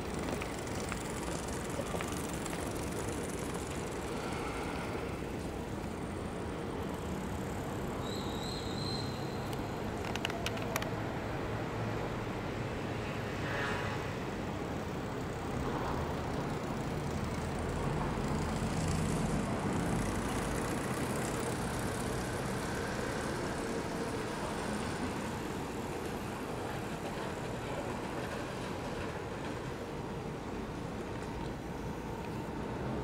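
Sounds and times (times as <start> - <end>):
city traffic rumble: 0.0 - 33.0.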